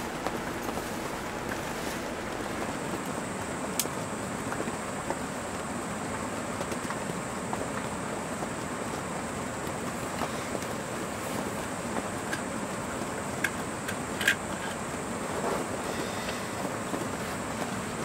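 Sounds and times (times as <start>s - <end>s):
rain falling on a tent: 0.0s - 18.0s.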